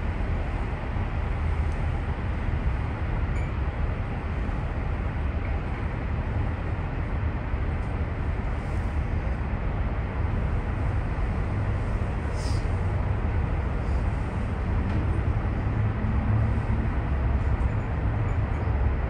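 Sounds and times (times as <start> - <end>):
low rumble of vehicle noise: 0.0 - 19.0.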